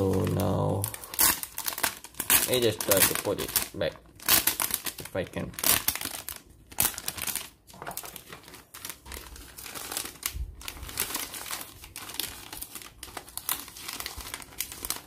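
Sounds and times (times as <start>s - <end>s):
cellophane sleeve crinkling: 0.0s - 15.0s.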